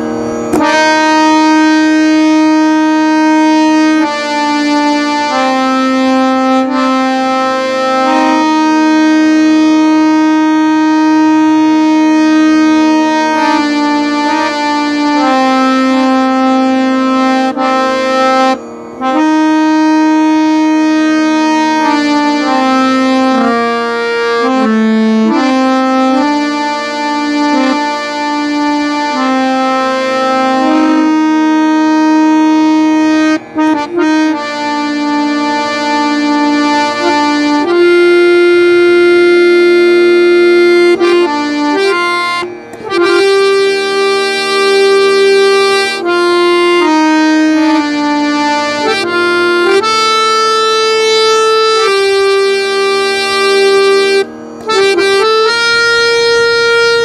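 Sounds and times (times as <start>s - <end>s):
harmonium slow melody: 0.0s - 57.0s.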